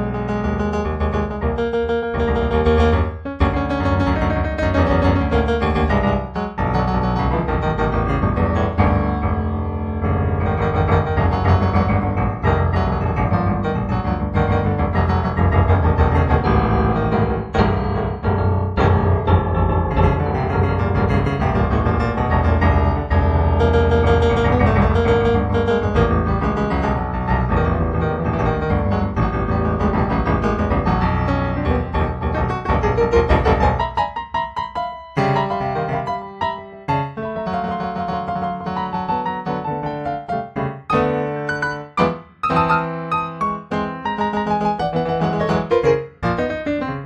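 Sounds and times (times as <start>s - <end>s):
solo piano music: 0.0s - 47.0s.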